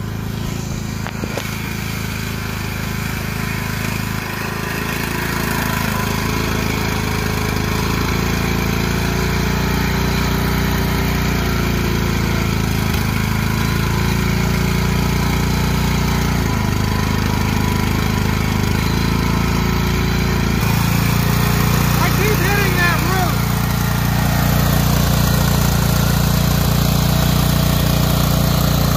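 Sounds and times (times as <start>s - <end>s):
lawn tractor engine running: 0.0s - 28.9s.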